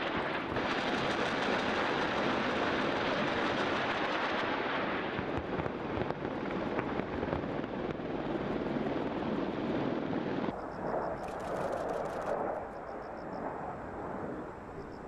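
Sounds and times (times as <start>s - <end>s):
rumble of explosions: 0.0s - 15.0s.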